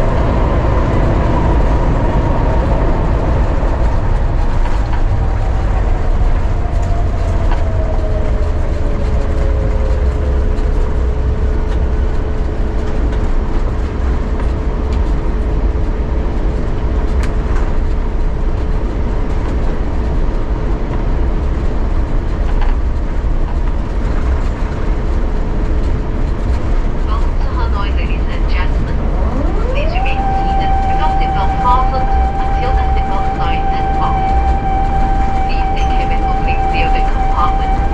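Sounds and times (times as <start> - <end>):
aircraft cabin rumble: 0.0 - 37.9
jet engines humming: 0.0 - 37.9.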